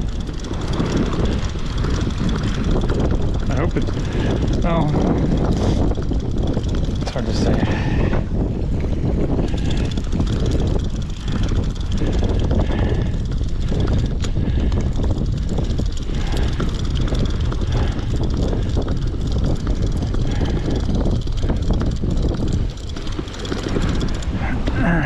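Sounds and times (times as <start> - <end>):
boat engine rumbling: 0.0 - 25.0
wind buffeting microphone: 0.0 - 25.0.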